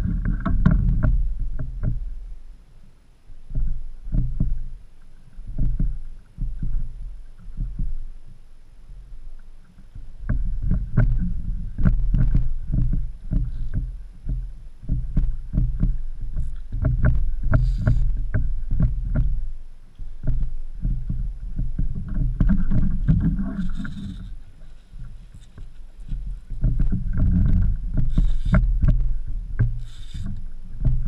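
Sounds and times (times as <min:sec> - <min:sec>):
heavy low rumble: 0:00.0 - 0:31.0.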